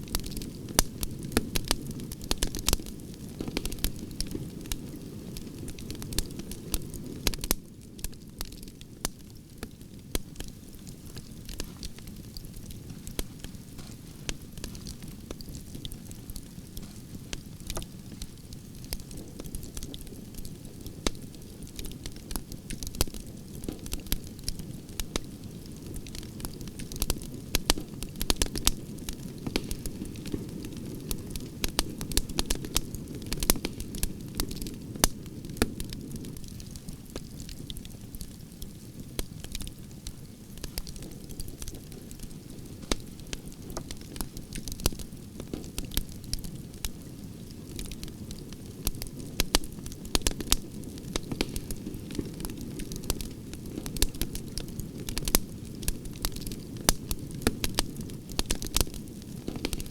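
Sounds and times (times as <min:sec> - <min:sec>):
campfire crackling: 0:00.0 - 0:59.9
low rumble of flames: 0:00.0 - 0:59.9.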